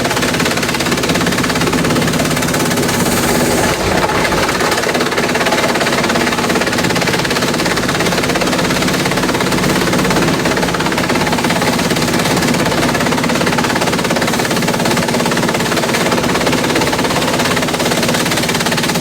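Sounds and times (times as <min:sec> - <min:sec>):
bamboo shredder running: 0:00.0 - 0:19.0.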